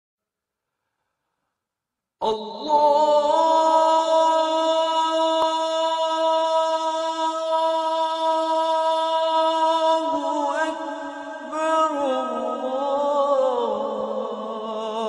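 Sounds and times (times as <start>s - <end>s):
person singing a long note: 2.2s - 15.0s.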